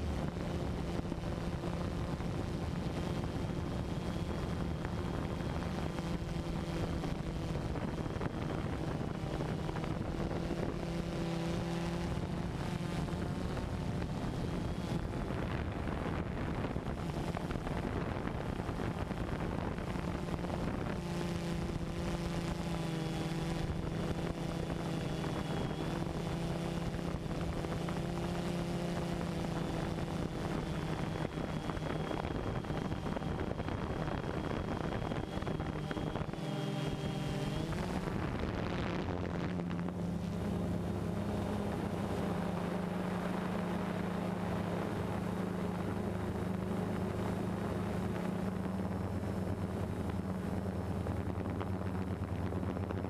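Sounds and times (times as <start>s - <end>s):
drone motors humming: 0.0s - 53.0s
wind noise on microphone: 0.0s - 53.0s.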